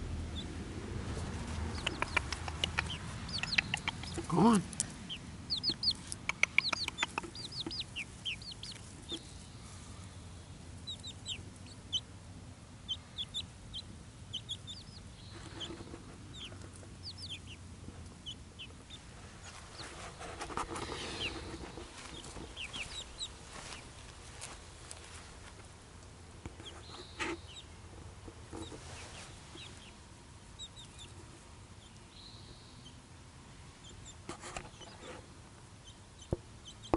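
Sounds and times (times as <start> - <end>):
chicks peeping: 0.0 - 25.8, 26.4 - 36.9.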